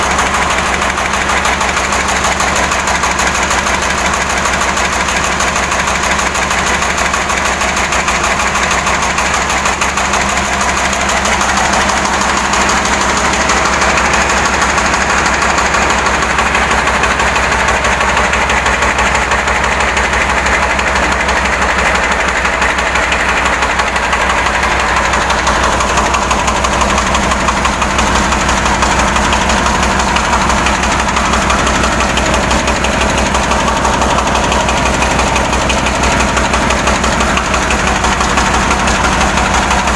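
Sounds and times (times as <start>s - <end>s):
hand tractor diesel engine running: 0.0s - 39.9s.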